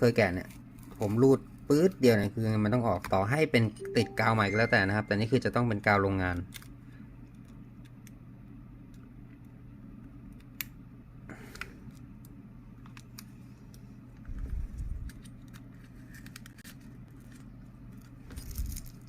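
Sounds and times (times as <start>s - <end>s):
steady low hum: 3.5s - 19.0s.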